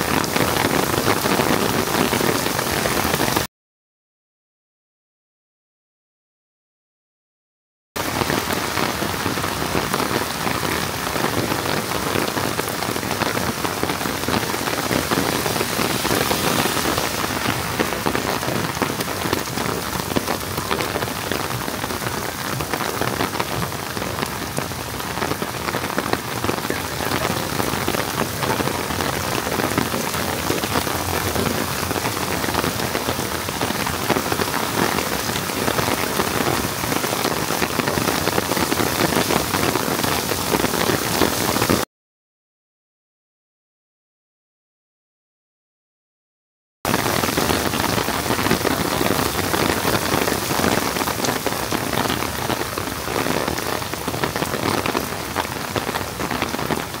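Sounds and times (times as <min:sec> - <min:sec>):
heavy rain pouring: 0:00.0 - 0:03.5, 0:08.0 - 0:41.9, 0:46.9 - 0:57.0.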